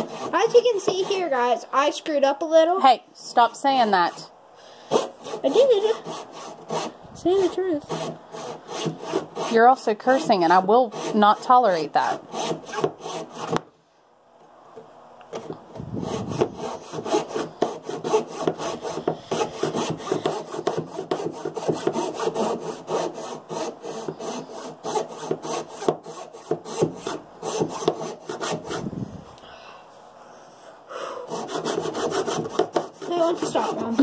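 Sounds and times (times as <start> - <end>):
hand saw cutting wood: 0.0 - 1.5, 3.8 - 13.6, 15.3 - 28.9, 31.3 - 34.0.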